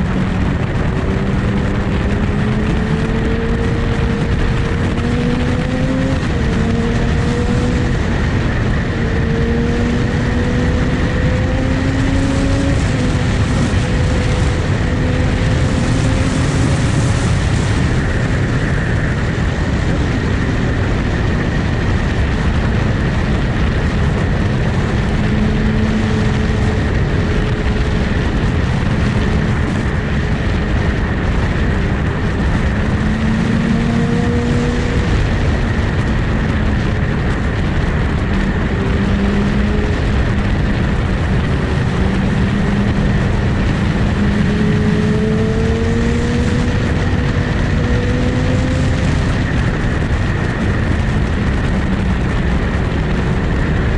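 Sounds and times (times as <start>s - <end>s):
motorcycle engine cruising: 0.0s - 53.9s
wind rush on microphone: 0.0s - 53.9s.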